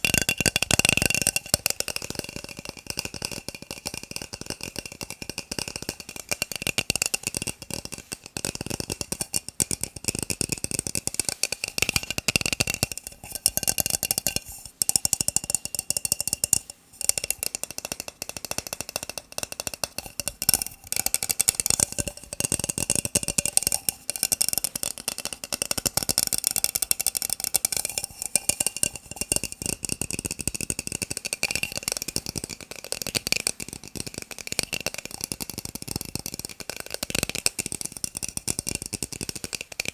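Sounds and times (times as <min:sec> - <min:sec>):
fingernails tapping on plastic cups: 0:00.0 - 0:39.9.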